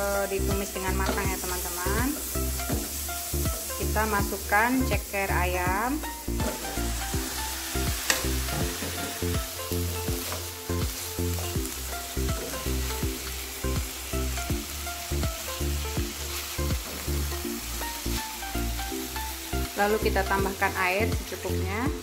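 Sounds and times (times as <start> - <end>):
background music with held notes: 0.0 - 22.0
chicken feet sizzling in oil: 0.0 - 22.0.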